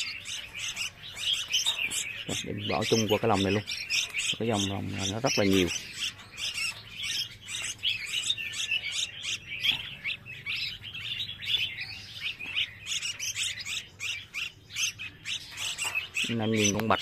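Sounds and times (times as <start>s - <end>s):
young songbirds chirping: 0.0s - 17.0s.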